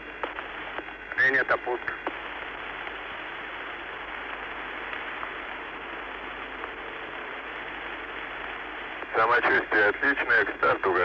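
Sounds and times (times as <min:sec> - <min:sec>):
radio link hiss: 0:00.0 - 0:11.0.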